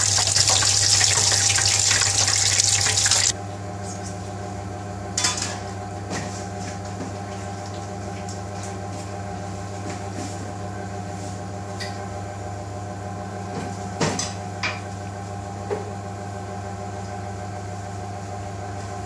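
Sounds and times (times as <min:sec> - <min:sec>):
kitchen machine hum: 0:00.0 - 0:19.0.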